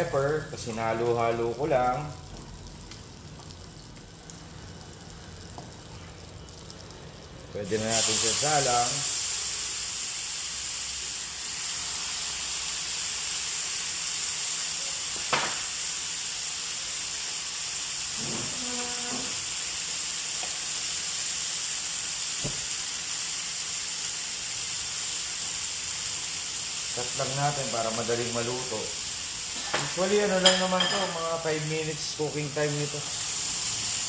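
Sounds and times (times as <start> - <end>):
chicken sizzling in butter: 0.0 - 34.0.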